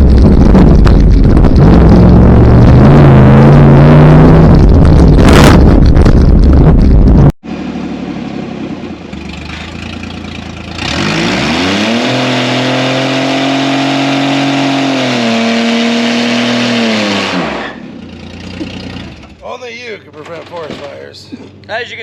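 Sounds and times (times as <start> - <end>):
truck engine revving: 0.0 - 19.4.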